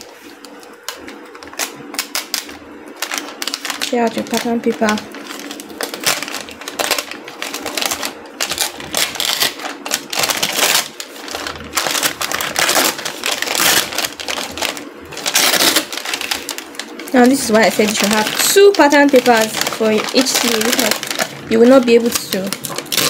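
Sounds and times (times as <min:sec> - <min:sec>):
paper ripping and rustling: 0:00.0 - 0:23.0.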